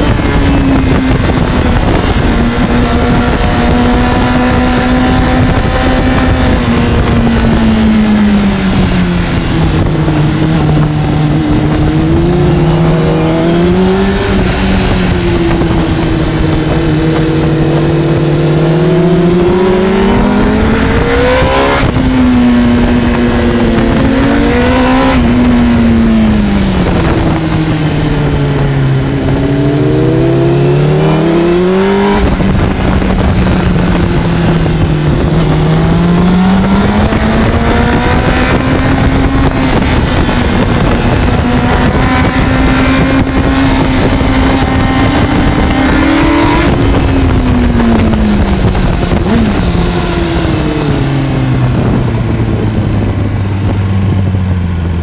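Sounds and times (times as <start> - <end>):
motorcycle engine revving: 0.0 - 55.0
wind rush on microphone: 0.0 - 55.0.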